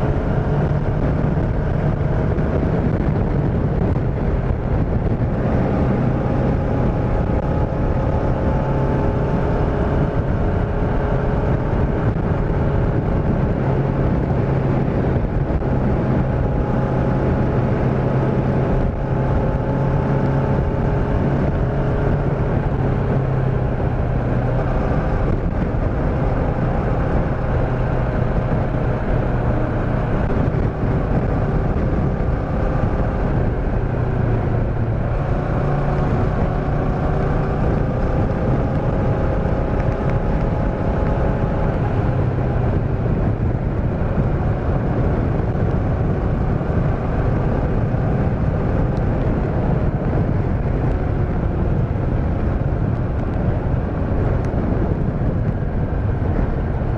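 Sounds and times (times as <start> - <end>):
motorcycle engine cruising: 0.0 - 56.9
wind and road noise: 0.0 - 56.9.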